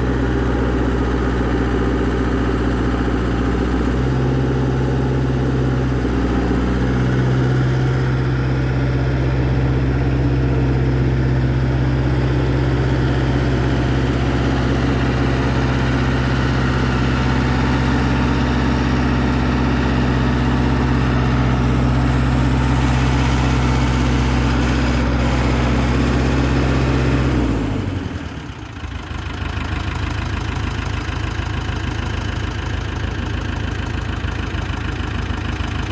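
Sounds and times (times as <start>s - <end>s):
excavator engine running: 0.0s - 35.9s.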